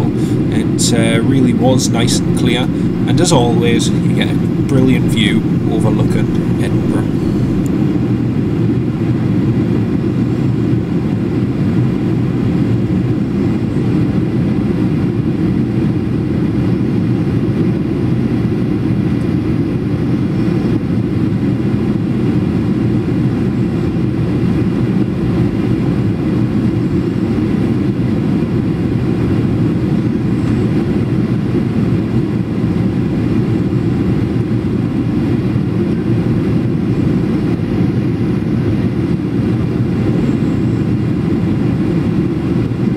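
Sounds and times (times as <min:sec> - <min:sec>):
airplane cabin engine drone: 0:00.0 - 0:42.9.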